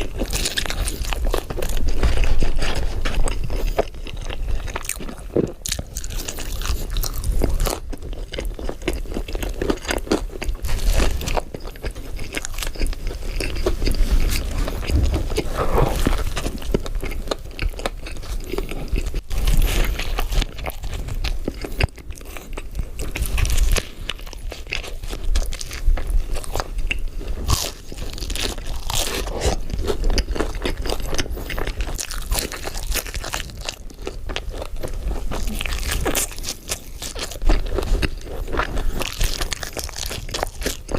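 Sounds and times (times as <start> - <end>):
crunchy eating and chewing: 0.0 - 40.9.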